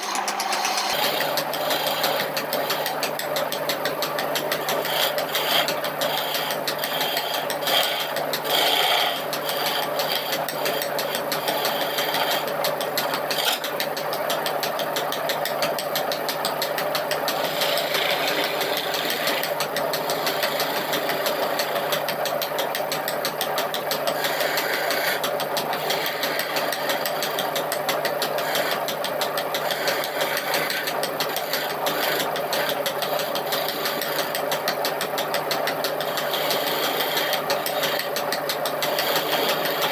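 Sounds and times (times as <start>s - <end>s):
electric power tool working wood: 0.0s - 14.9s, 15.5s - 39.9s.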